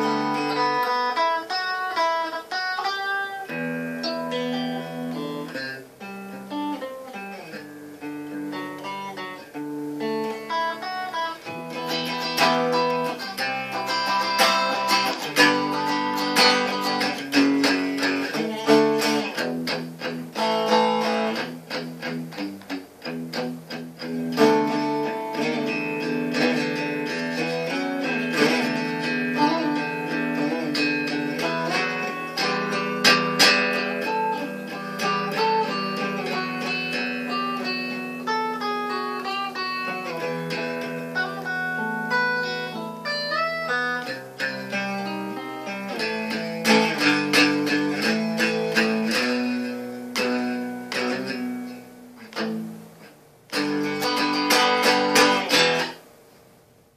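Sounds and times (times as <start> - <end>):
electric guitar playing: 0.0 - 56.9.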